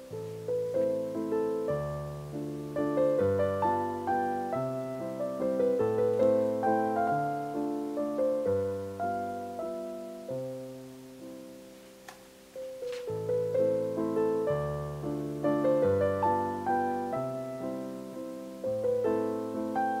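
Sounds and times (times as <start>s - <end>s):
soft piano music: 0.0s - 20.0s.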